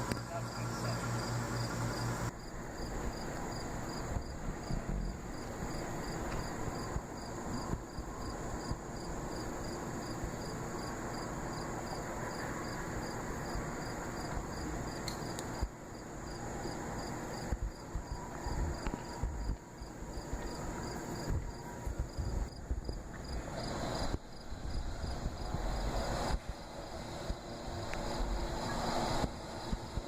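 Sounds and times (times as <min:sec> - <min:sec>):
cricket chirping: 0:00.0 - 0:30.0
low rumbling background noise: 0:00.0 - 0:30.0.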